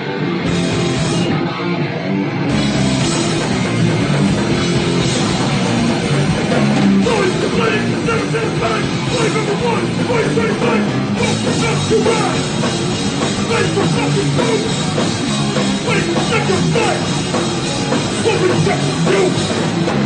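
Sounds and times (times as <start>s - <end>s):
drum kit: 0.0s - 1.6s, 2.5s - 20.0s
bass guitar: 0.0s - 20.0s
distorted electric guitar: 0.0s - 20.0s.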